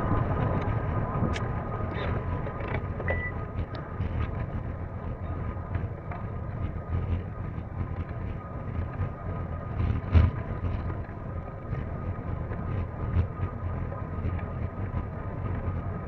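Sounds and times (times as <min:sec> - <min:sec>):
light rattling and ticking: 0:00.0 - 0:16.0
low rumble: 0:00.0 - 0:16.0
wind buffeting microphone: 0:00.0 - 0:16.0.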